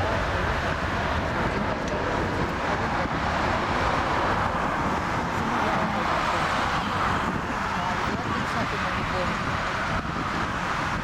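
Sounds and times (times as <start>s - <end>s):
distant jet engine roar: 0.0s - 11.0s.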